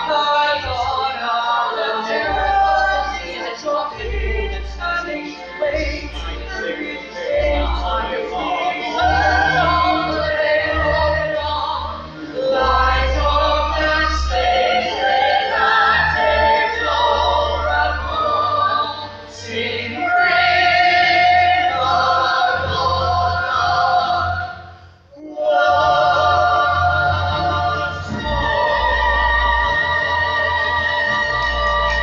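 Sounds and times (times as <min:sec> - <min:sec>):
group singing in harmony: 0:00.0 - 0:32.0.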